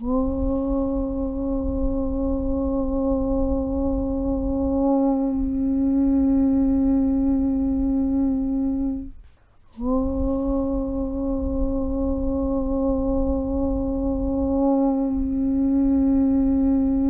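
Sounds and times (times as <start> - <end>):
person chanting low hum: 0.0 - 17.0.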